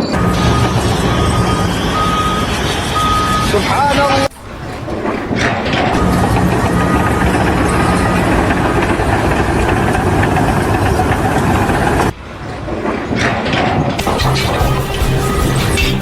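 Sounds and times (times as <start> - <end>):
engine running: 0.0 - 12.1, 14.0 - 16.0
loud machine noise: 0.0 - 16.0
quieter machine noise: 0.0 - 16.0.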